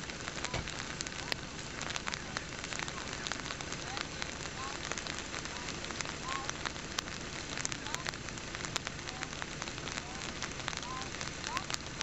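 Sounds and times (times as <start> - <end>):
outdoor hiss: 0.0 - 12.0
small crackling clicks: 0.0 - 12.0.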